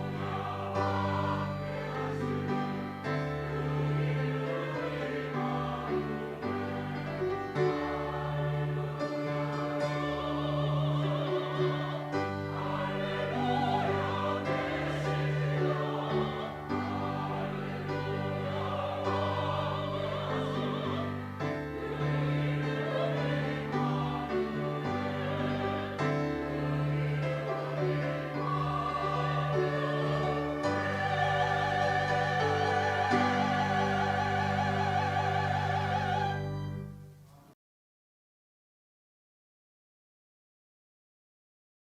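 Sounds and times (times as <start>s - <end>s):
church choir singing: 0.0s - 37.0s.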